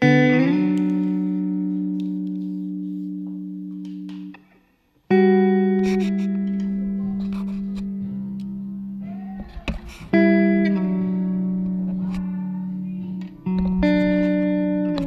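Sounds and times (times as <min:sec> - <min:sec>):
plucked guitar chords: 0:00.0 - 0:04.5, 0:05.1 - 0:15.0.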